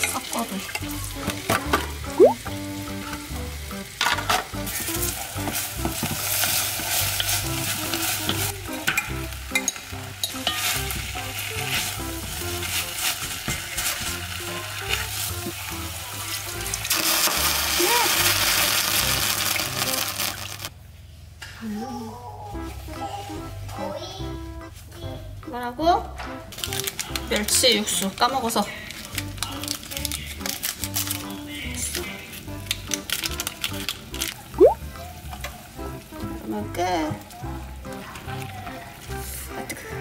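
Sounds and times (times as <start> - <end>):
greens sizzling in a pot: 0.0 - 20.8, 26.4 - 40.0.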